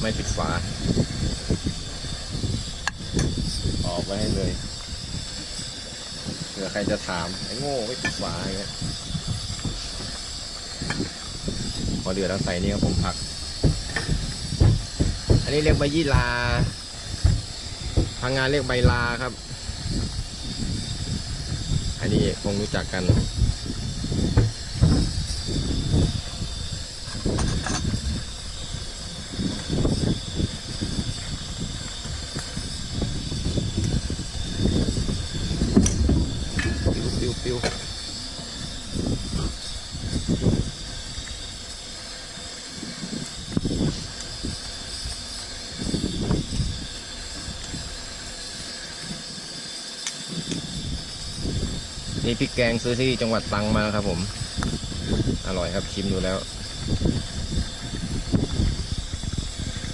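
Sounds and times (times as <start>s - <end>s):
gas burner hissing: 0.0s - 59.9s
wind rumbling on microphone: 0.0s - 59.9s.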